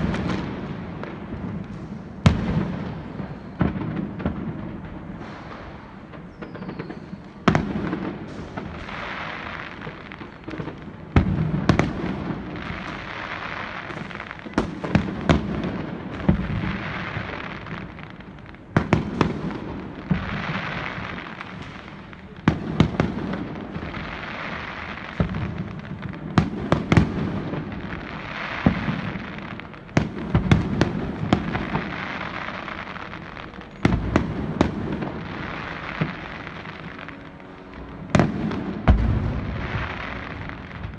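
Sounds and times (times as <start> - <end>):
fireworks crackle: 0.0 - 40.9.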